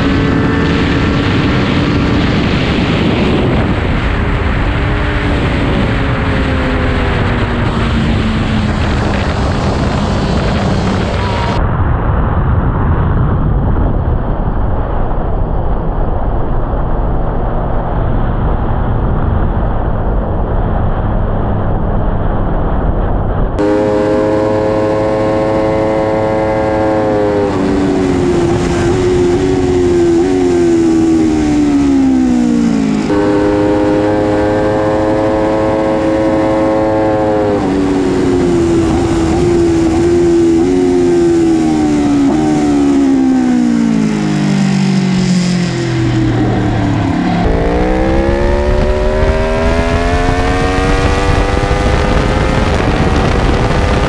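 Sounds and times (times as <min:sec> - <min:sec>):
motorcycle engine revving: 0:00.0 - 0:11.6, 0:20.0 - 0:54.0
wind: 0:00.0 - 0:54.0.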